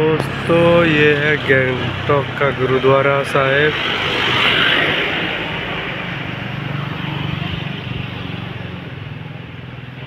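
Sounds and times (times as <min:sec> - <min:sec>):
vehicle driving past: 0:00.1 - 0:09.3.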